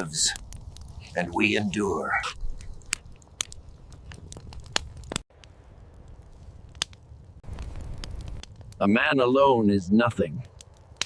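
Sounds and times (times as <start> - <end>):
sharp crackles and crunches: 0.0 - 11.0.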